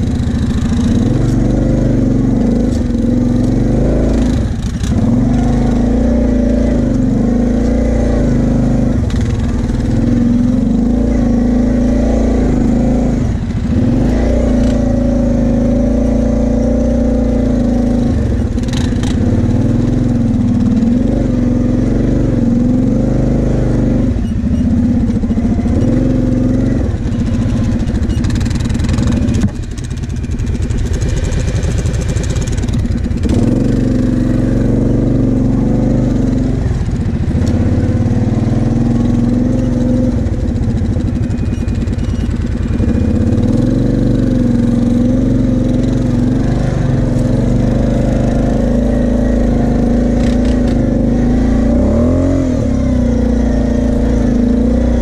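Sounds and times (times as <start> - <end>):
quad bike engine running: 0.0 - 55.0.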